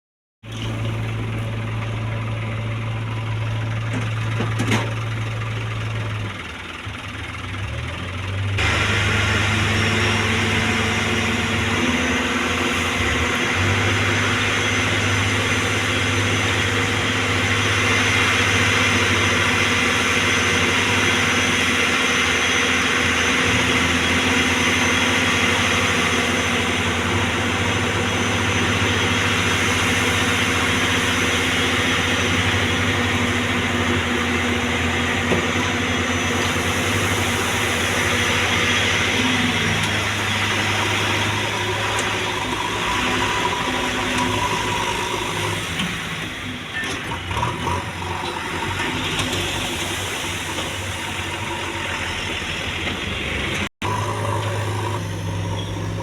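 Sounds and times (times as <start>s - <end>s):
diesel engine running: 0.4s - 56.0s.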